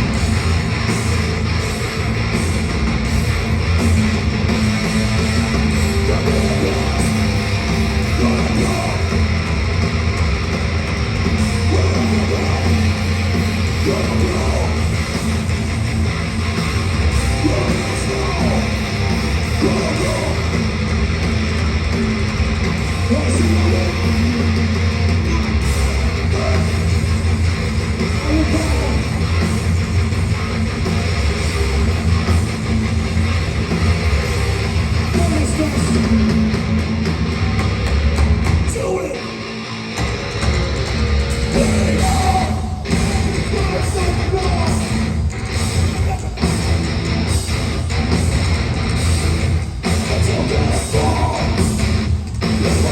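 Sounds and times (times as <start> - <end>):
metal band playing live: 0.0 - 52.9.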